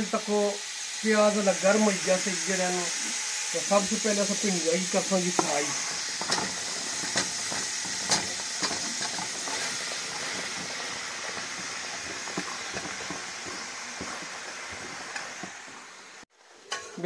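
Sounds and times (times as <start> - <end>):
frying in hot oil sizzling: 0.0 - 17.0.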